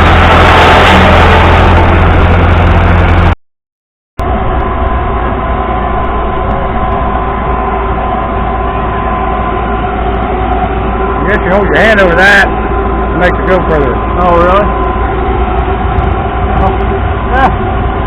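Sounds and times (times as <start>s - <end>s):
machine engine humming: 0.0s - 3.4s, 4.2s - 18.0s.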